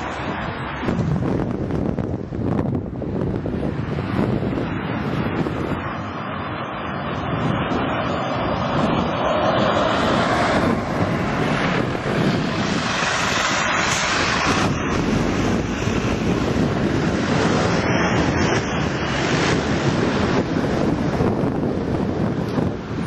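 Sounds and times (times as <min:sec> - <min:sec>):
road traffic passing: 0:00.0 - 0:23.0
wind on microphone: 0:00.0 - 0:23.0.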